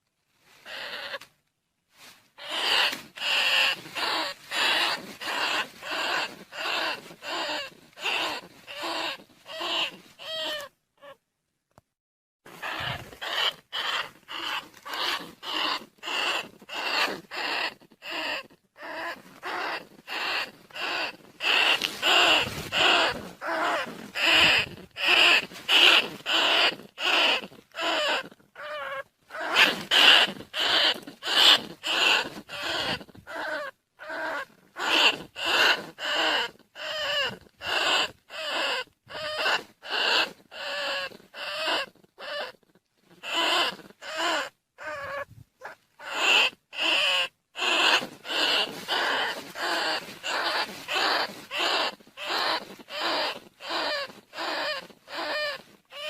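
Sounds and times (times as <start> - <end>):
rat squeaking calls: 0.6 - 1.3, 2.4 - 11.2, 12.6 - 56.0.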